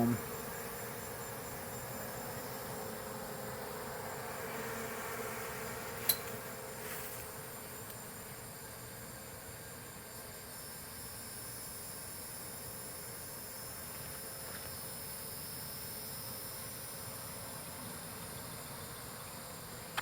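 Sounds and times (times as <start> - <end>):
honeybees buzzing: 0.0 - 19.9
evening insects chorus: 0.0 - 20.0.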